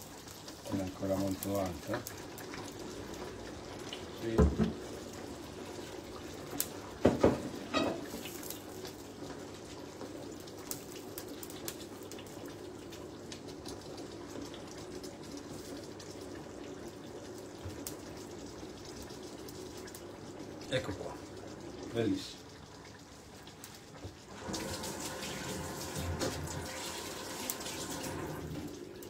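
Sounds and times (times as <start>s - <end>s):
sauce simmering in a frying pan: 0.0s - 29.0s.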